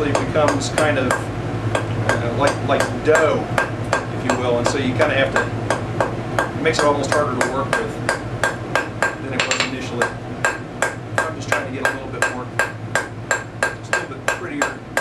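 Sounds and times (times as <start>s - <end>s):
hammer striking steel on anvil: 0.1s - 15.0s.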